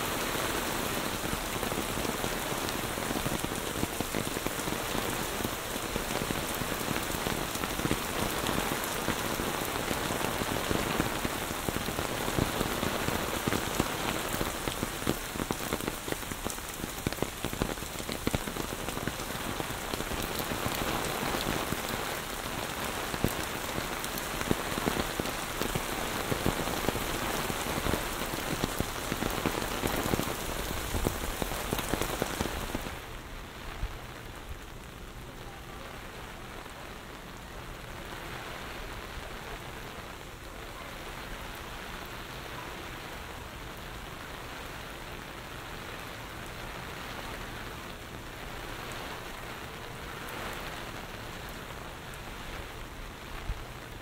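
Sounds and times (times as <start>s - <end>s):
heavy rain pouring: 0.0s - 54.0s
ticks of raindrops: 0.0s - 54.0s.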